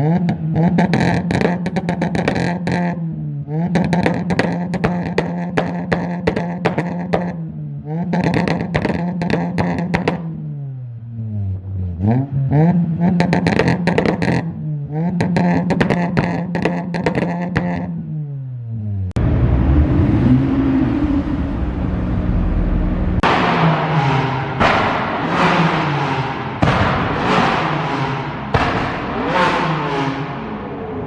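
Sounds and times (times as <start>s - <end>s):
car engine hitting rev limiter: 0.0s - 10.6s, 12.0s - 18.1s, 21.6s - 31.0s.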